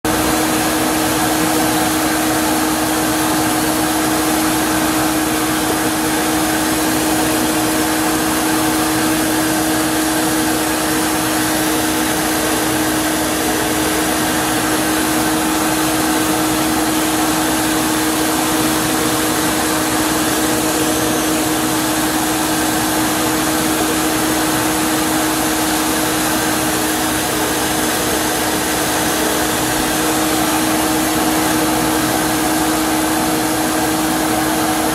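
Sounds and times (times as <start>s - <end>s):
drill press hum: 0.0s - 34.9s
shop vacuum rushing air: 0.0s - 34.9s.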